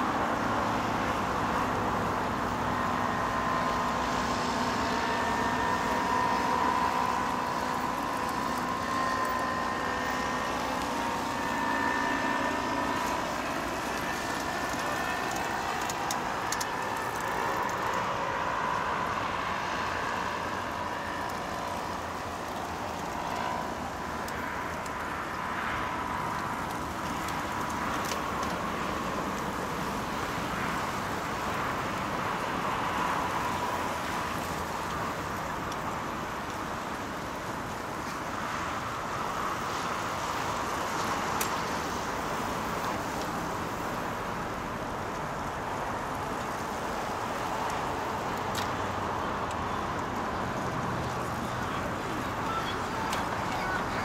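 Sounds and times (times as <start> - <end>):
bicycles rolling on tarmac: 0.0 - 54.0
road traffic noise: 0.0 - 54.0.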